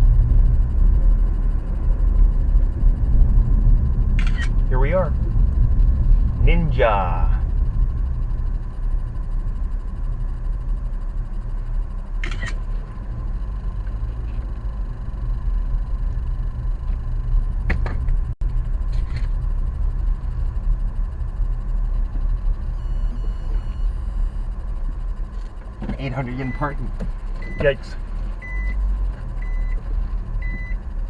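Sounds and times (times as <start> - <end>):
car engine and tyres rumbling: 0.0 - 31.0.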